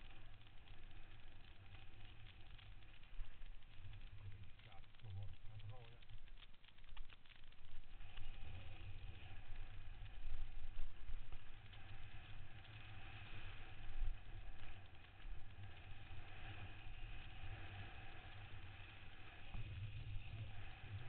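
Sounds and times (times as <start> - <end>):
bike tyres on dirt trail: 0.0 - 21.0.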